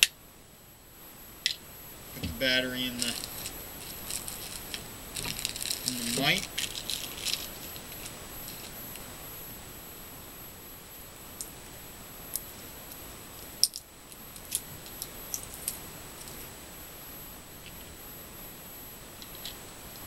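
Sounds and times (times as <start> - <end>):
faint high whine: 0.0 - 20.0
steady hiss: 0.0 - 20.0.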